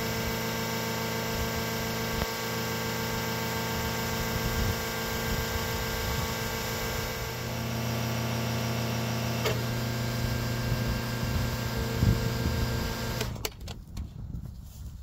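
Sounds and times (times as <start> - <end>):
mechanical hum: 0.0 - 13.5.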